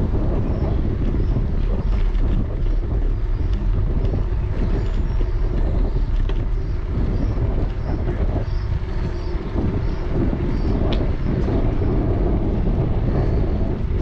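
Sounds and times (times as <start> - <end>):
bicycle clicks and rattles: 0.0 - 14.0
wind buffeting microphone: 0.0 - 14.0.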